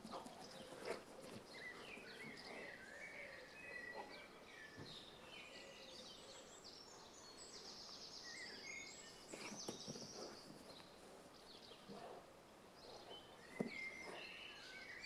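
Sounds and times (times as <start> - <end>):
quiet outdoor background noise: 0.0 - 15.0
small birds chirping: 0.0 - 15.0.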